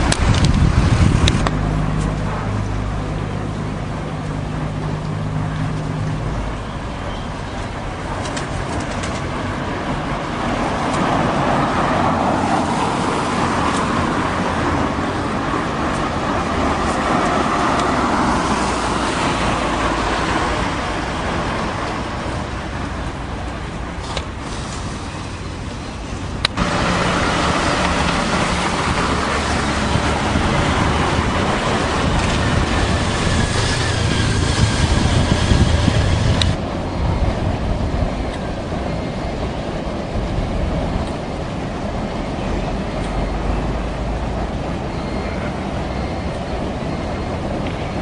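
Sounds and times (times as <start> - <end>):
road traffic noise: 0.0 - 48.0
vehicle engine humming: 0.0 - 48.0.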